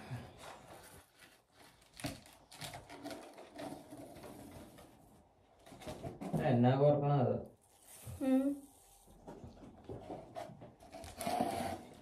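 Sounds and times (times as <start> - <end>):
rustling of balloons: 0.0 - 6.4, 7.6 - 12.0.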